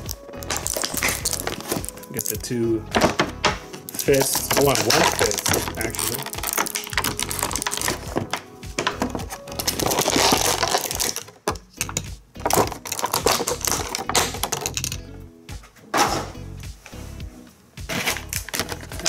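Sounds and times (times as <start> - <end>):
plastic packaging crinkling: 0.0 - 3.2, 3.8 - 15.0, 17.9 - 19.0
low background music: 0.0 - 19.0.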